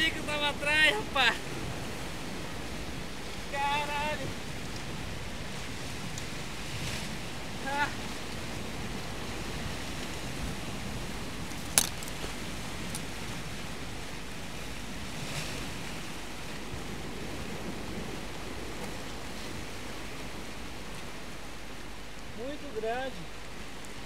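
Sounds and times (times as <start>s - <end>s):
sea surf: 0.0s - 24.0s.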